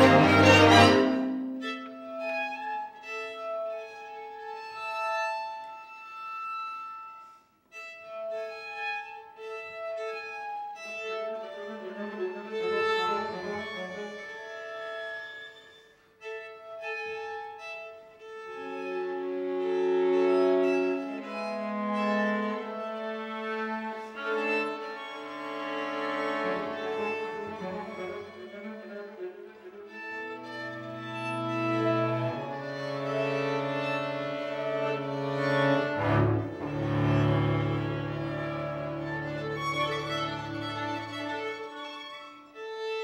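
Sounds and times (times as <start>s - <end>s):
string quartet playing: 0.0s - 43.0s.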